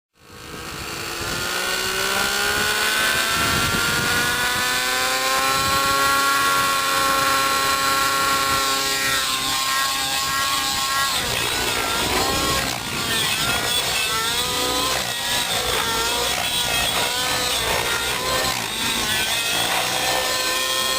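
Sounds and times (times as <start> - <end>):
model helicopter engine whine: 0.2 - 20.9.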